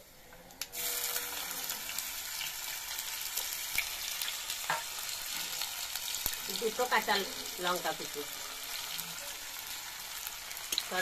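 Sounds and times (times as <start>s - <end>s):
ginger sizzling in hot oil: 0.0s - 11.0s.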